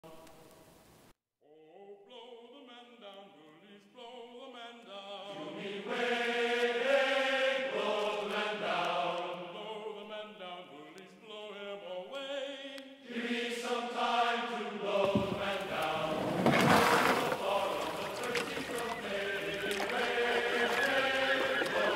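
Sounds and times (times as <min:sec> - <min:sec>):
choir singing: 0:01.6 - 0:21.9.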